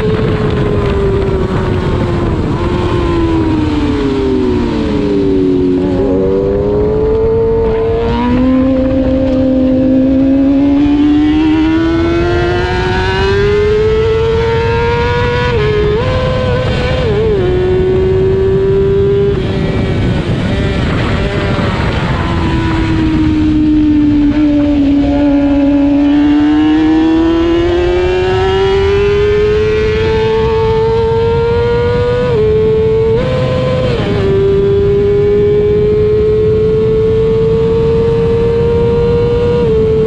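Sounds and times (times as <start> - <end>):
racing motorcycle engine: 0.0 - 40.0.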